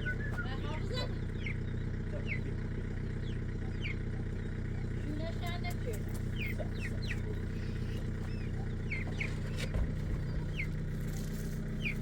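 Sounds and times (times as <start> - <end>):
birds chirping: 0.0 - 11.0, 11.7 - 12.0
low mechanical hum: 0.0 - 12.0.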